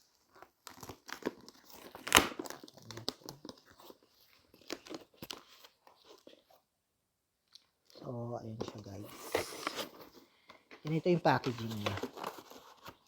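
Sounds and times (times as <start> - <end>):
packaging crinkling and tearing: 0.0 - 6.6, 7.5 - 13.0.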